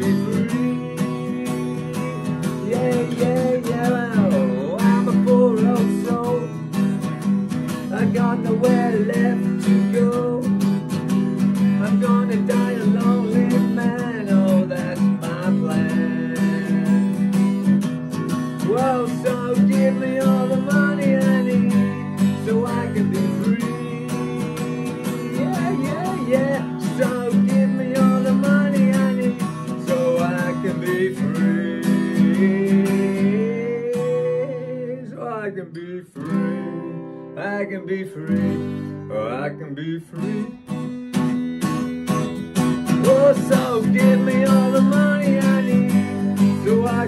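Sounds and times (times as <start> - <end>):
acoustic guitar strummed: 0.0 - 47.0
man singing: 0.0 - 47.0.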